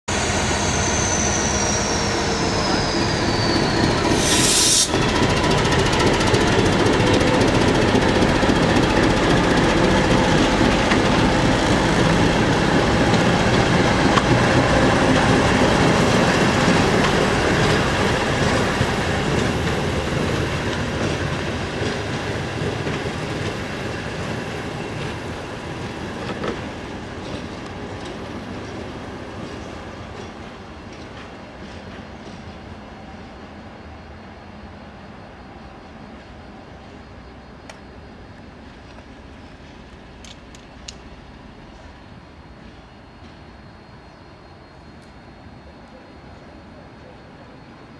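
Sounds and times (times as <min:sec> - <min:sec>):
diesel locomotives passing: 0:00.1 - 0:47.9.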